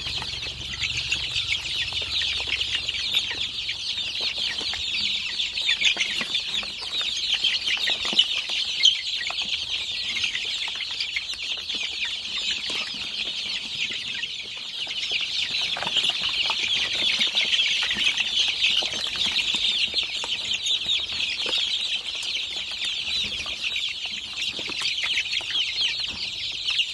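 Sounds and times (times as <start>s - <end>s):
chicks peeping: 0.0s - 26.9s.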